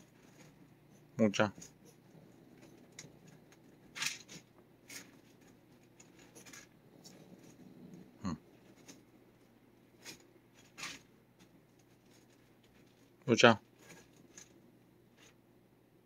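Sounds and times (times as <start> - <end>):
plastic tube rustling in fingers: 0.0 - 15.4.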